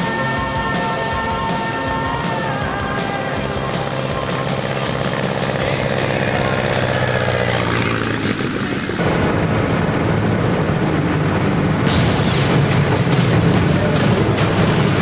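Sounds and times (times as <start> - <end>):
aircraft piston engine droning: 0.0 - 15.0.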